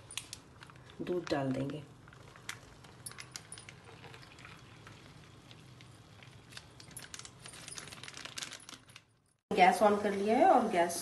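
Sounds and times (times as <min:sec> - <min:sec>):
plastic pouch crinkling: 0:00.0 - 0:09.2.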